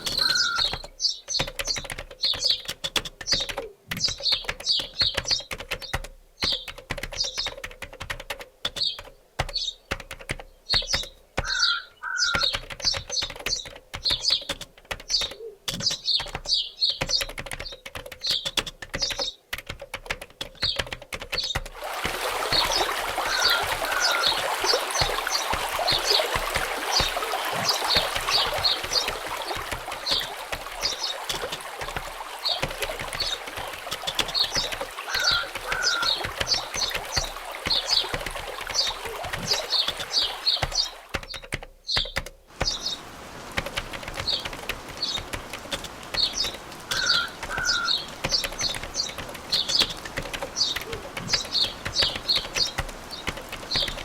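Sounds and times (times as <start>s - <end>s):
dense irregular clicking: 0.0s - 11.6s, 12.3s - 21.8s, 22.5s - 54.0s
running water rushing: 0.0s - 54.0s
small birds chirping: 0.0s - 54.0s.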